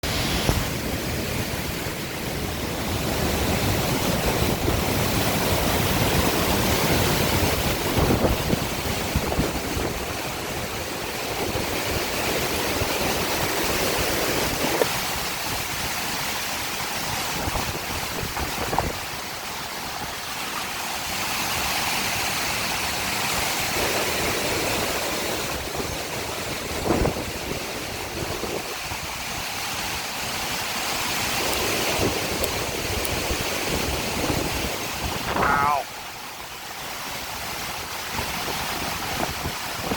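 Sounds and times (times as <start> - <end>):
strong wind gusting: 0.0 - 20.2, 23.7 - 35.8, 37.5 - 39.9.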